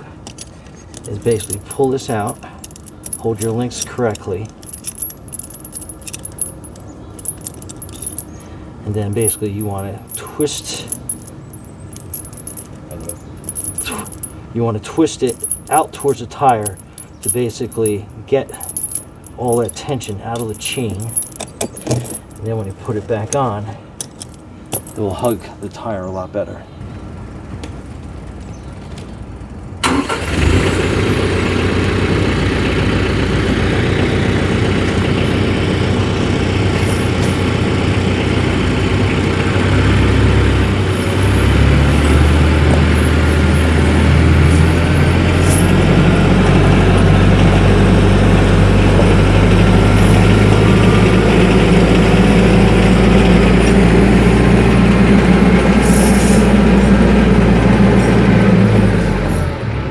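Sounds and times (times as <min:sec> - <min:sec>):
tractor diesel engine running: 0:00.0 - 0:25.4, 0:27.9 - 0:59.9.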